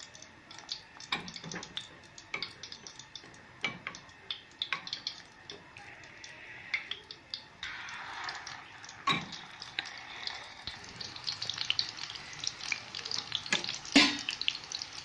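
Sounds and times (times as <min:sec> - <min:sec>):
faint steady sizzle: 0:00.0 - 0:15.0
meat frying with pops and spits: 0:00.0 - 0:15.0.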